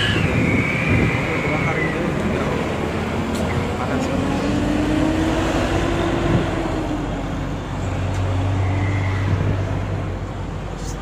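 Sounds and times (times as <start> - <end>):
car road noise: 0.0 - 11.0.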